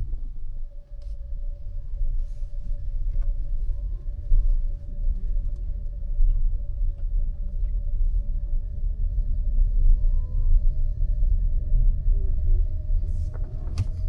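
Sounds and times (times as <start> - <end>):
car engine and road rumble: 0.0 - 14.0
faint constant hum: 0.0 - 14.0.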